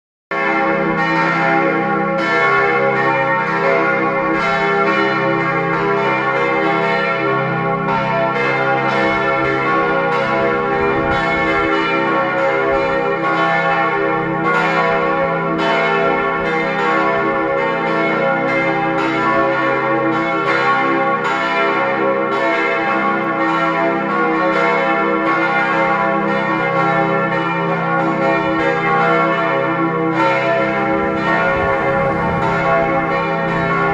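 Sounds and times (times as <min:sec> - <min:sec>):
church bells pealing: 0:00.3 - 0:33.9.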